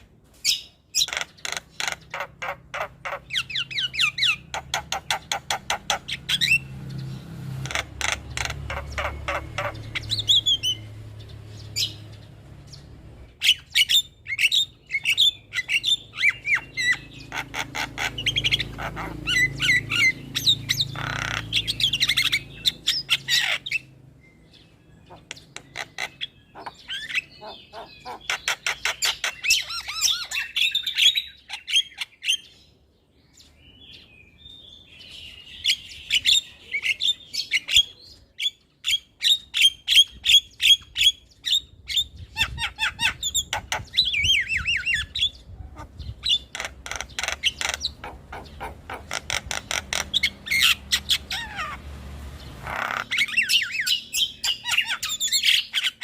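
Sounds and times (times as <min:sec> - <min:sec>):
myna bird calling: 0:00.0 - 0:56.0.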